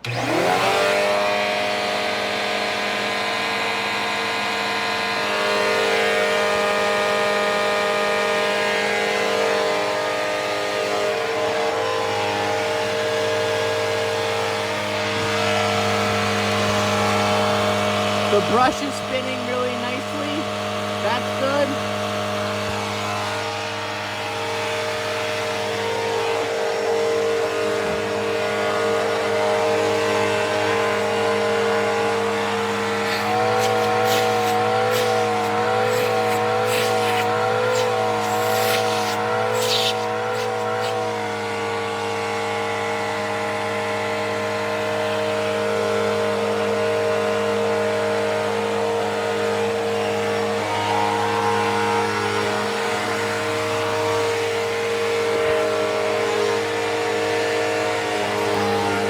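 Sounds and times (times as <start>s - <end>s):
vacuum cleaner motor whine: 0.0s - 59.0s.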